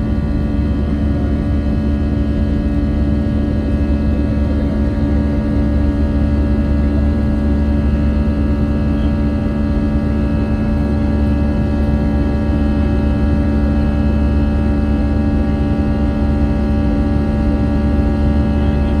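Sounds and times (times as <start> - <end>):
jet engine cabin drone: 0.0 - 19.0.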